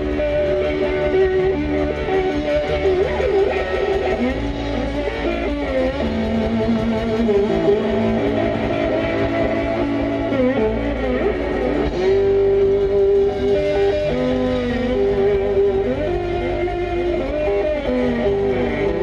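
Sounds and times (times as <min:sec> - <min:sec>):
electric guitar bent notes: 0:00.0 - 0:19.0
live blues band playing: 0:00.0 - 0:19.0.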